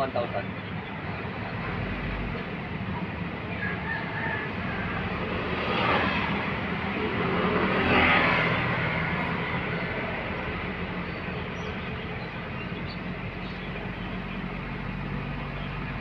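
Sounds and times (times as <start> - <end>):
car engine at raised revs: 0.0 - 16.0.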